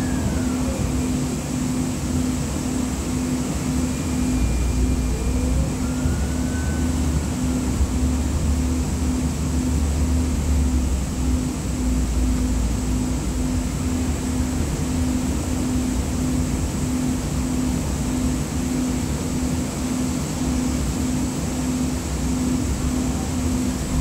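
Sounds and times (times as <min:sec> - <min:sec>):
faint high whine: 0:00.0 - 0:24.0
light rail cabin rumble: 0:00.0 - 0:24.0
pulsing hum: 0:00.0 - 0:24.0.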